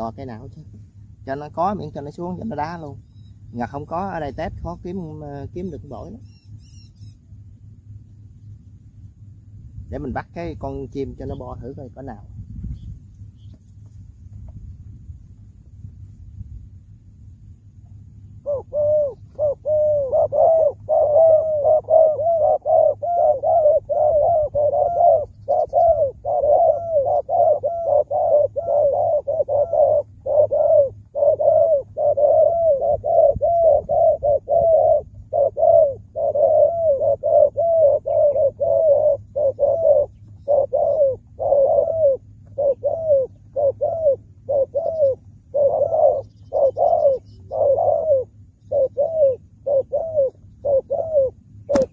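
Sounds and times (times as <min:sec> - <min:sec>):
doves cooing: 0:00.0 - 0:14.5, 0:18.0 - 0:51.9.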